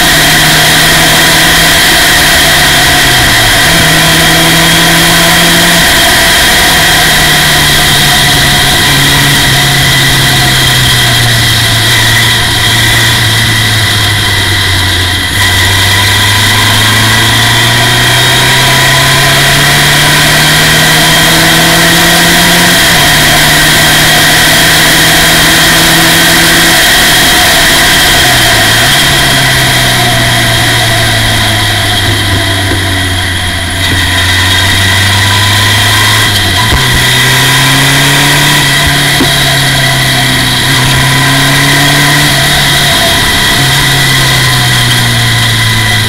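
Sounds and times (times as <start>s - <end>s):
race car engine revving: 0.0s - 46.0s.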